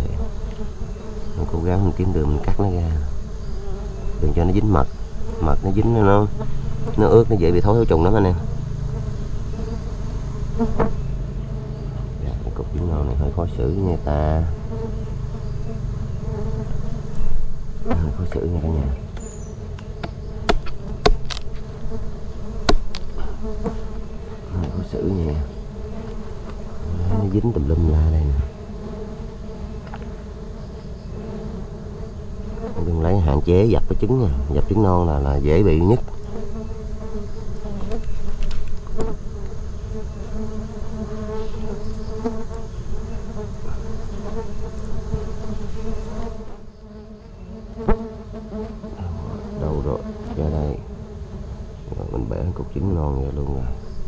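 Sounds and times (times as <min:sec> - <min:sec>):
bees buzzing: 0:00.0 - 0:54.0.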